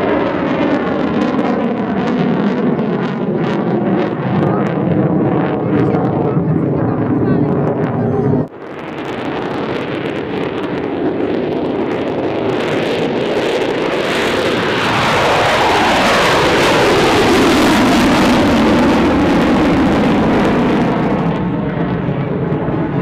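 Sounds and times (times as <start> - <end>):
falling jet tone passing: 0.0 - 23.0
jet engine roar: 0.0 - 23.0.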